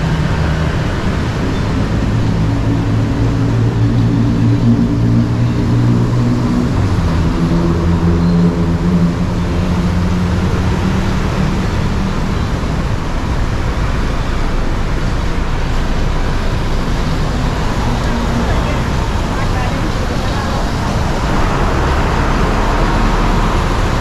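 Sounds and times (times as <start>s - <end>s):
traffic noise: 0.0s - 24.0s
vehicle engine humming: 0.0s - 24.0s.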